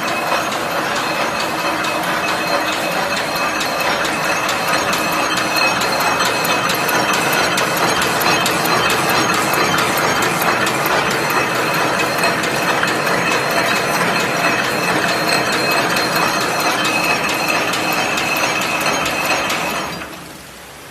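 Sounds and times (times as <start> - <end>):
machine gears clattering: 0.0 - 20.3
high machine whine: 0.0 - 20.6.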